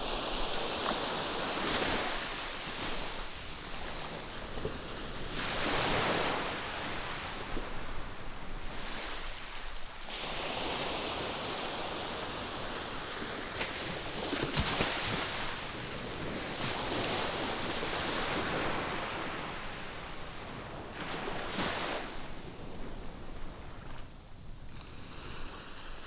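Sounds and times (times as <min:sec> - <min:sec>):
ocean waves breaking on shore: 0:00.0 - 0:26.0.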